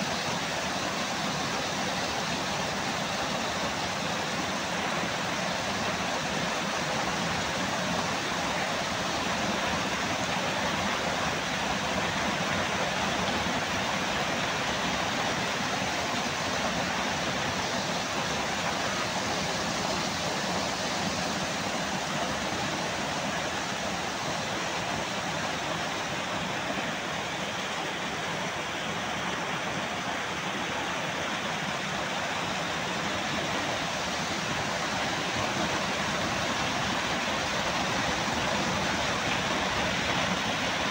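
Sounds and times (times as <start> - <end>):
small waterfall splashing into pool: 0.0 - 40.9.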